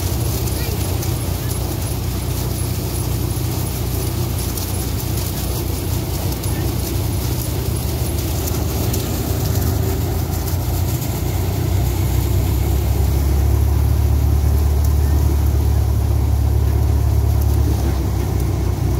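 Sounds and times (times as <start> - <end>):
diesel engine hum: 0.0 - 18.9
thresher rush of blown straw: 0.0 - 18.9.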